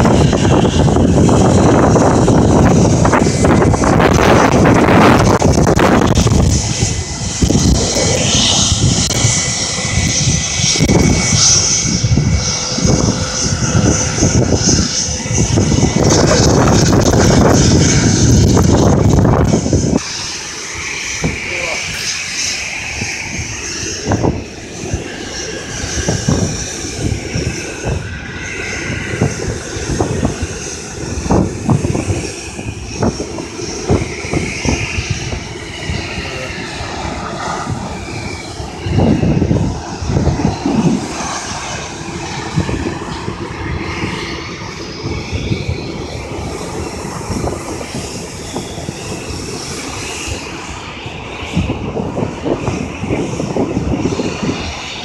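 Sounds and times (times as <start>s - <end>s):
jet engines rumbling with whine: 0.0s - 55.0s
wind buffeting microphone: 0.0s - 55.0s.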